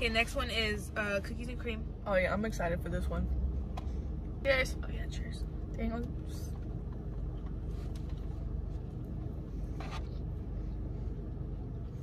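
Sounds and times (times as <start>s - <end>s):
low hum inside a car: 0.0s - 12.0s.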